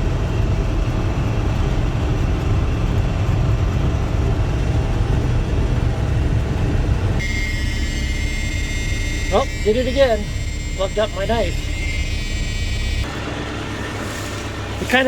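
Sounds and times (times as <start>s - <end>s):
swather engine and machinery rumble: 0.0s - 15.0s.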